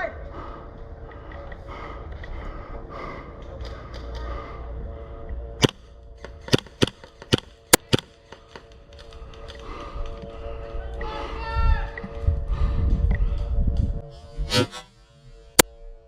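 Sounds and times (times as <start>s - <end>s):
low rumble: 0.1s - 16.0s.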